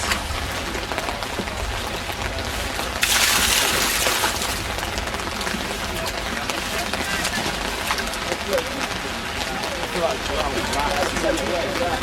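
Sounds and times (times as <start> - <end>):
hiss of rain and floodwater: 0.0 - 12.0.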